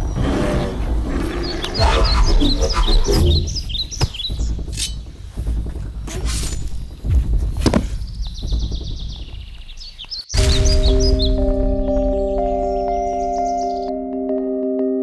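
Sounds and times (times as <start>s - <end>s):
birds chirping: 0.0s - 6.0s, 6.9s - 14.0s.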